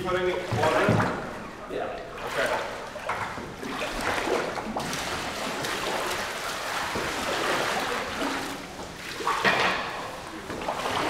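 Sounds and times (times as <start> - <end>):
water running into a tank: 0.0 - 11.0.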